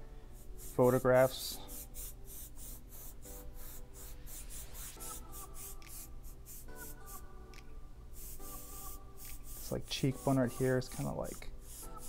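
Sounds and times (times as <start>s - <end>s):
airbrush hissing in bursts: 0.4s - 7.3s, 8.1s - 12.0s.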